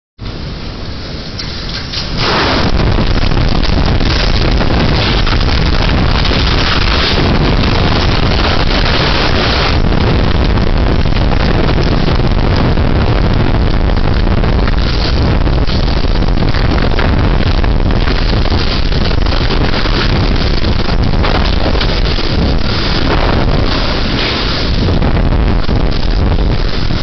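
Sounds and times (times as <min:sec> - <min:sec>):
strong wind buffeting microphone: 0:00.3 - 0:27.0.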